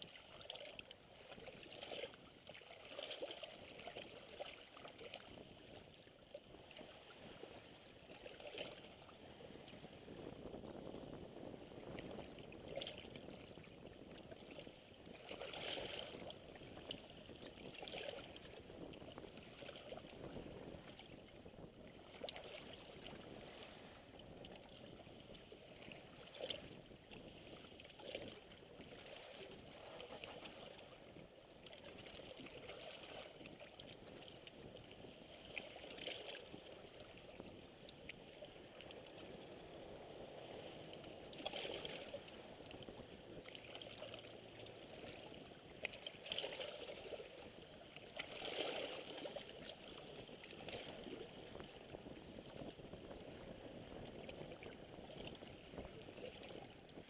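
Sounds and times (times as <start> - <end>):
sea waves lapping on rocks: 0.0 - 57.0.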